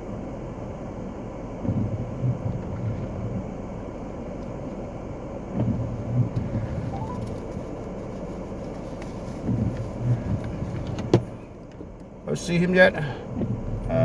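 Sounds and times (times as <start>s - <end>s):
car engine and tyre hum: 0.0s - 14.0s.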